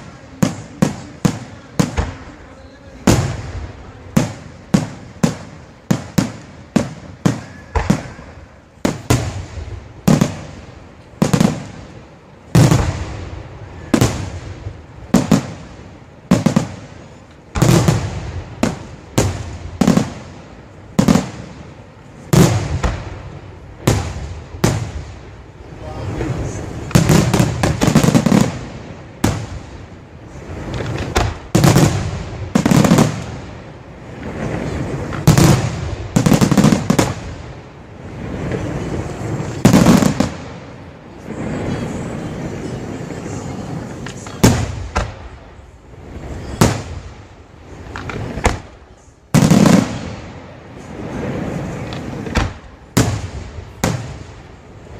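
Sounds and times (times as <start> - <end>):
fireworks bursting: 0.0 - 54.9
fireworks crackle: 0.0 - 54.9.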